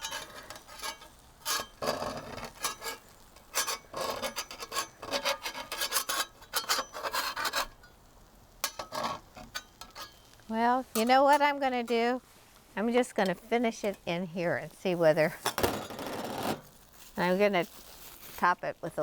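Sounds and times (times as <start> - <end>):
utensil scraping a skillet: 0.0 - 18.6.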